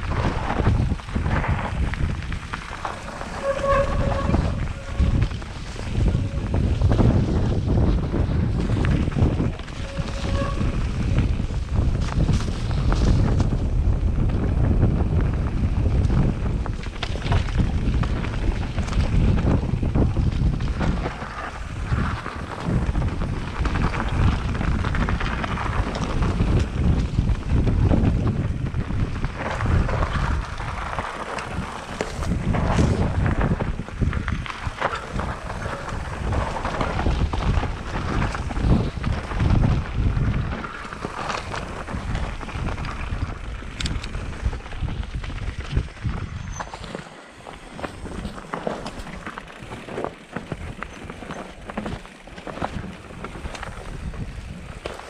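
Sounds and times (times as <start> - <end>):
tyres rattling over dirt and stones: 0.0 - 15.2, 15.8 - 55.0
wind buffeting microphone: 0.0 - 55.0.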